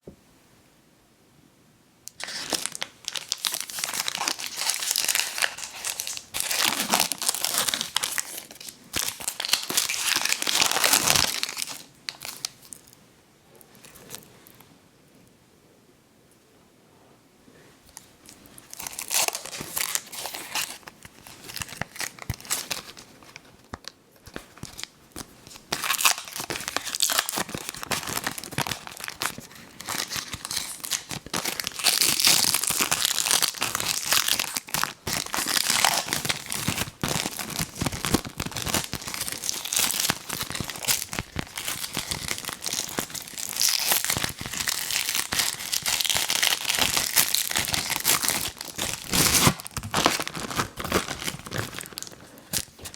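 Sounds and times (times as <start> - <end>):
snack packaging crinkling and tearing: 2.1 - 13.0, 17.9 - 52.9.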